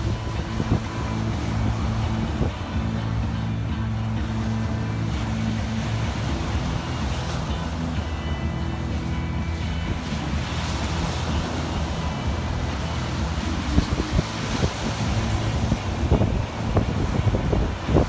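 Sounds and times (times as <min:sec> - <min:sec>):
surf breaking: 0:00.0 - 0:18.0
wind buffeting microphone: 0:00.0 - 0:18.0.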